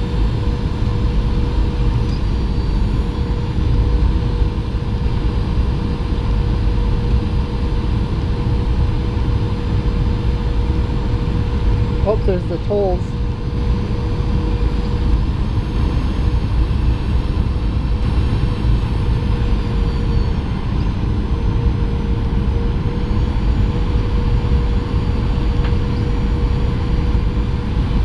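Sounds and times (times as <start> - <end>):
jet engines: 0.0 - 28.0.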